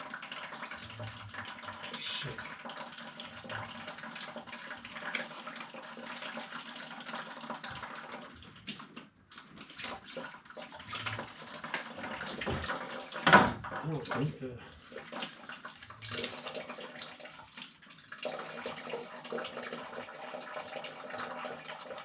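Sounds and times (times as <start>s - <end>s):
water running and splashing: 0.0s - 22.0s.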